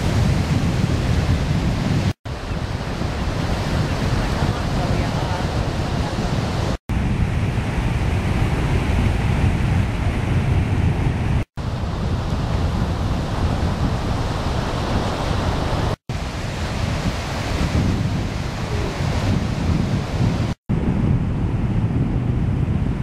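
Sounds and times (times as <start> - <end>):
surf on a beach: 0.0 - 23.0
wind buffeting microphone: 0.0 - 23.0.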